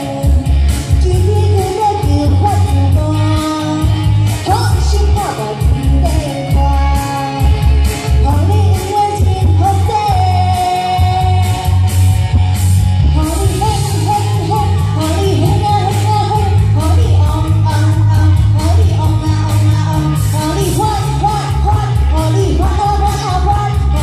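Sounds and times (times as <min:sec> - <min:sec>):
woman singing into a microphone: 0:00.0 - 0:12.4, 0:13.0 - 0:24.0
backing track with bass beat: 0:00.0 - 0:24.0.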